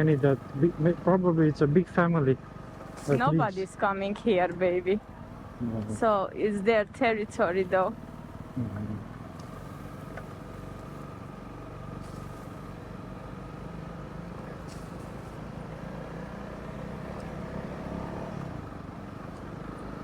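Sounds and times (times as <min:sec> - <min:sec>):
motorcycle engine running: 0:00.0 - 0:20.0
road noise: 0:00.0 - 0:20.0.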